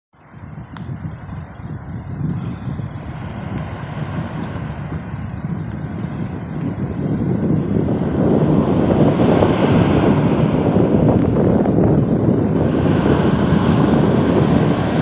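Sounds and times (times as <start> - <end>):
fire engine and tyre rumble: 0.3 - 15.0.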